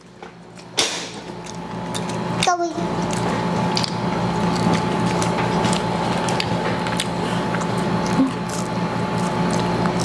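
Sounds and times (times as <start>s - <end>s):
fried chicken crackling while eaten: 1.3s - 10.0s.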